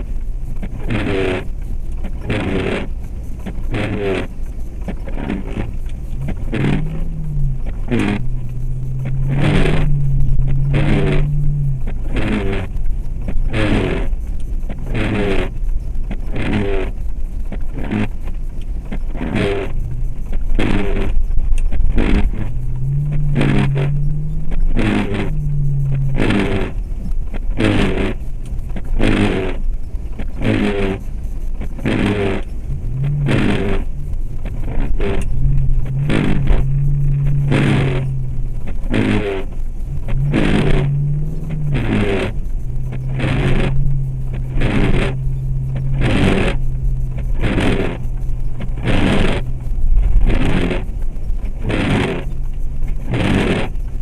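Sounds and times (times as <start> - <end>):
car engine running: 0.0 - 54.0
regular scraping stroke: 0.0 - 54.0.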